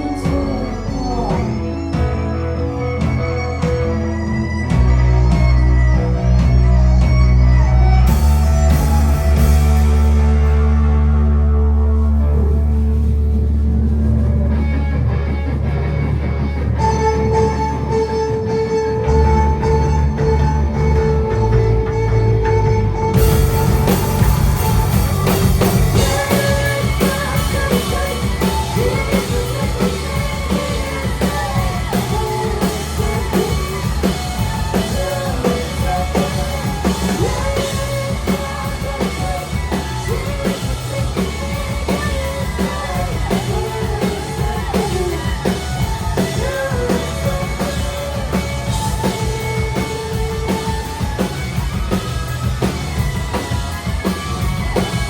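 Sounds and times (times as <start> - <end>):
person singing: 0.0 - 13.3, 16.8 - 55.0
live rock band playing: 0.0 - 55.0.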